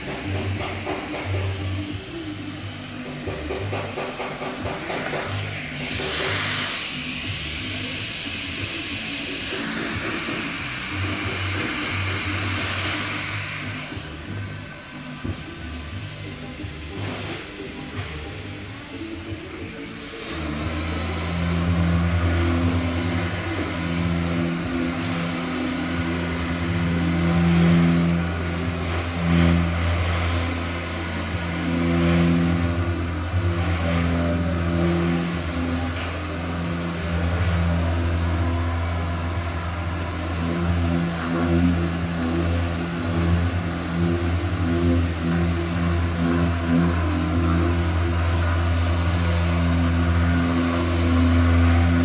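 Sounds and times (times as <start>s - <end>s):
electric sander motor hum: 0.0s - 52.0s.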